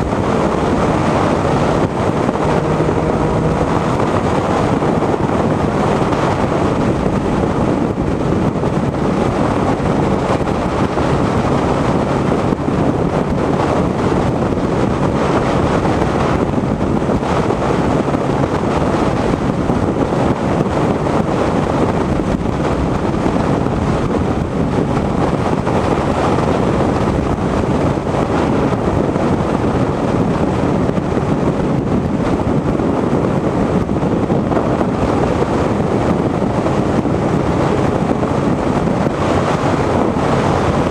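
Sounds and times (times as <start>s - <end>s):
motorcycle running: 0.0s - 40.9s
wind rushing on microphone: 0.0s - 40.9s.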